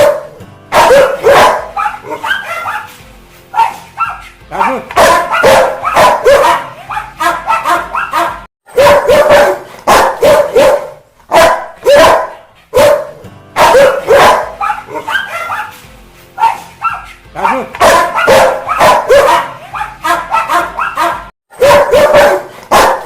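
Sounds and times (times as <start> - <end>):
dog barking angrily: 0.0 - 2.9, 3.6 - 15.8, 16.4 - 23.0.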